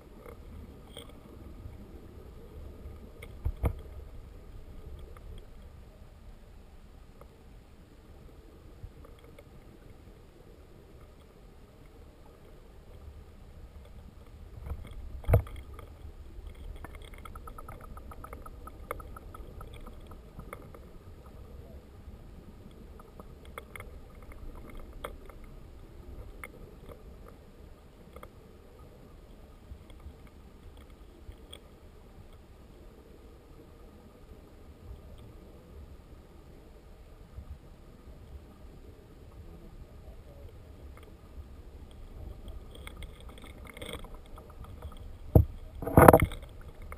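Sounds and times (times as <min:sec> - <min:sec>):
underwater clicks and ticks: 0:00.0 - 0:06.0, 0:07.1 - 0:07.4, 0:08.3 - 0:46.9
underwater rumble of moving water: 0:00.0 - 0:46.9.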